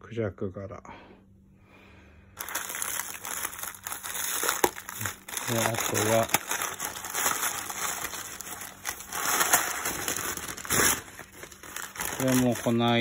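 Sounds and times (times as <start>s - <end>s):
packaging rustling: 2.4s - 13.0s.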